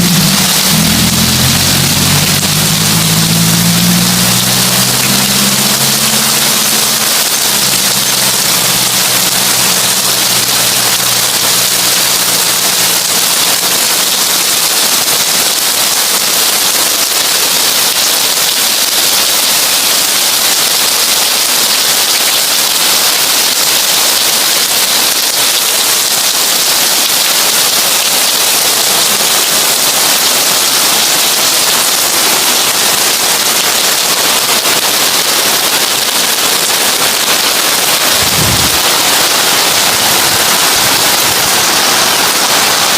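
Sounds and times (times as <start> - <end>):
heavy rain on a tin roof: 0.0 - 42.9.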